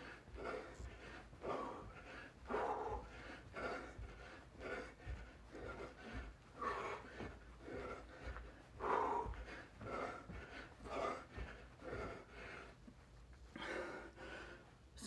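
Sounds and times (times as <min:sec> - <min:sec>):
feet thudding on carpet: 0:00.0 - 0:14.6
man breathing hard: 0:00.0 - 0:15.0.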